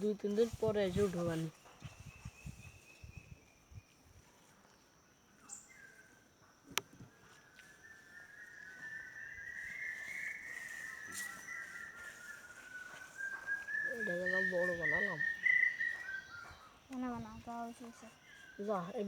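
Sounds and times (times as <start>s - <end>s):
faint insect drone: 0.0s - 19.0s.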